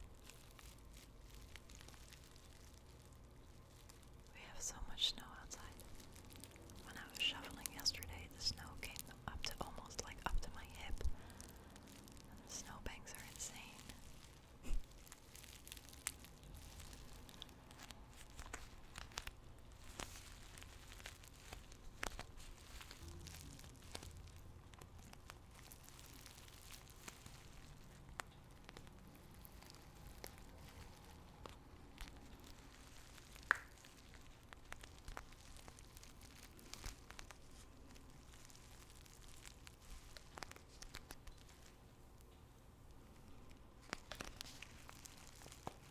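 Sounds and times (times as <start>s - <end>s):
crinkling of paper tea bags: 0.0s - 45.9s.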